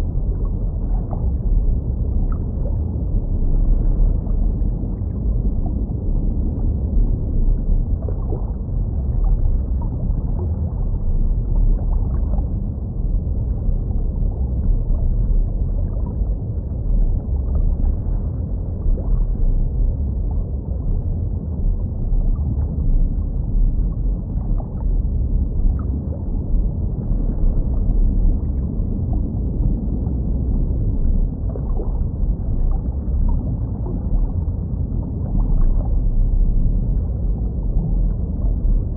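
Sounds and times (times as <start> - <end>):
deep underwater rumble: 0.0 - 38.9
faint watery gurgles: 0.0 - 38.9.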